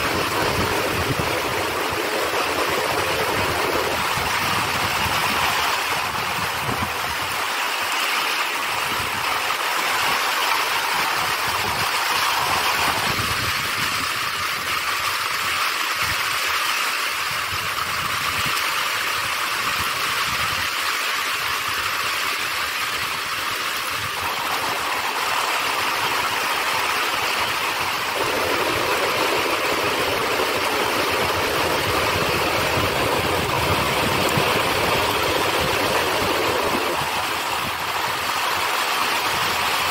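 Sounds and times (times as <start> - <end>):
heavy rain falling: 0.0 - 39.9
water running off an edge: 0.0 - 39.9.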